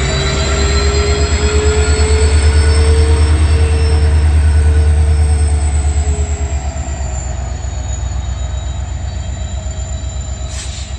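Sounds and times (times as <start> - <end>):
diesel locomotive engine humming: 0.0 - 10.9.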